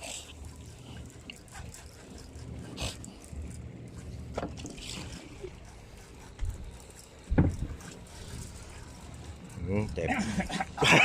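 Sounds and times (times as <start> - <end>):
boat engine rumble: 0.0 - 11.0.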